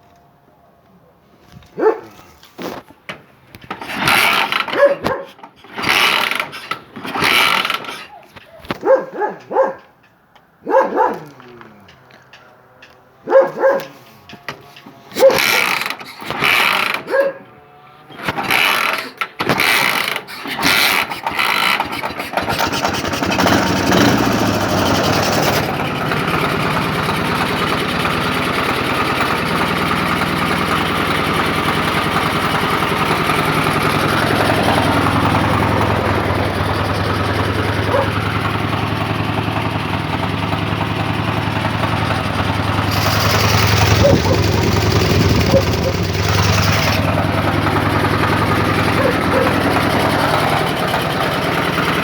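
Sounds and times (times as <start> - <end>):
motorcycle engine starting and idling: 1.5 - 52.0.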